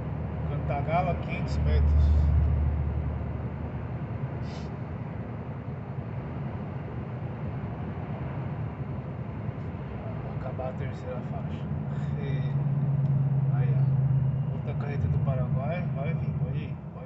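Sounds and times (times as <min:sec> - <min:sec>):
truck engine and road drone: 0:00.0 - 0:17.0.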